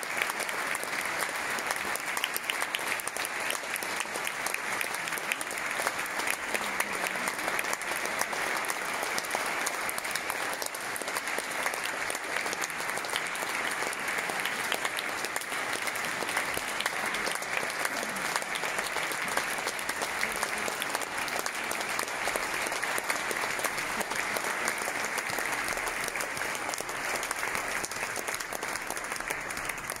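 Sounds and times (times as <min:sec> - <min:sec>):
audience applause: 0:00.0 - 0:30.0.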